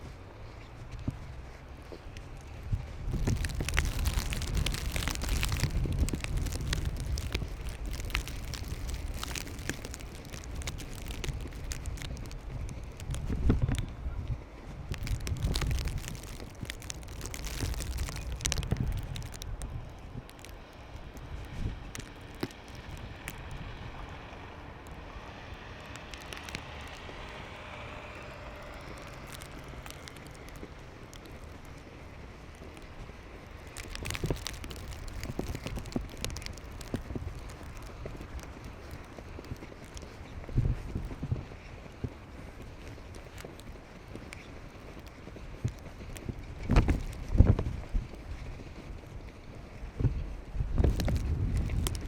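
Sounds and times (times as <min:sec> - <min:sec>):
traffic rumble: 0:00.0 - 0:52.0
wind buffeting microphone: 0:00.0 - 0:52.0
crackling ticks: 0:00.7 - 0:14.0, 0:14.6 - 0:52.0
faint clicks: 0:03.1 - 0:13.9, 0:14.9 - 0:23.6, 0:25.6 - 0:27.4, 0:28.4 - 0:48.9.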